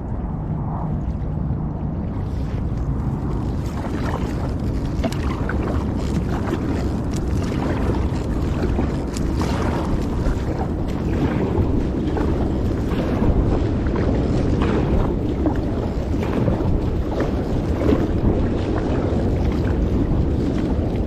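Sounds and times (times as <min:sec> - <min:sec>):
wind rumble on microphone: 0:00.0 - 0:21.0
kayak paddle splashing: 0:02.1 - 0:21.0.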